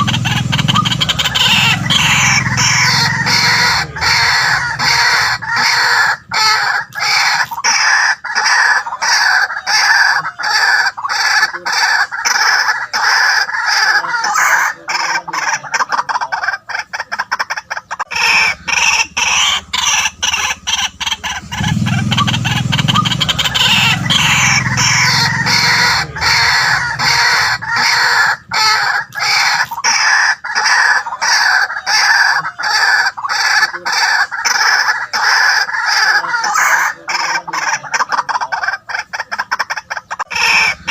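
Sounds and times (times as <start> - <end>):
bird calling harsh repeated notes: 0.0 - 40.9.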